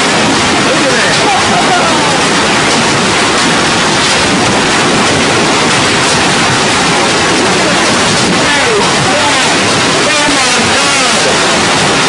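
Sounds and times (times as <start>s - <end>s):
hail pounding: 0.0s - 12.0s.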